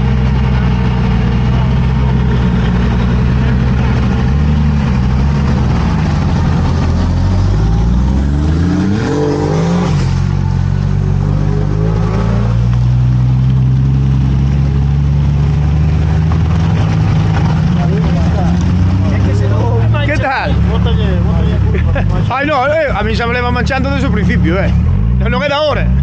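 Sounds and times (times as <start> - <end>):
engine droning under load: 0.0 - 26.0.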